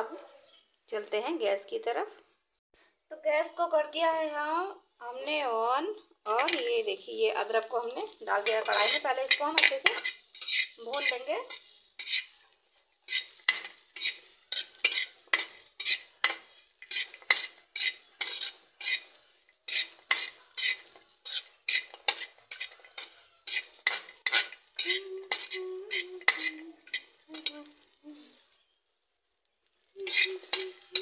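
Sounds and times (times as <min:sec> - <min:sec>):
spoon stirring and scraping pan: 0:06.0 - 0:31.0.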